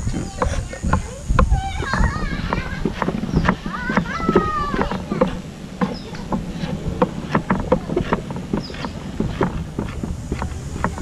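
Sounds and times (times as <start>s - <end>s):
knife chopping on wooden board: 0.4s - 11.0s.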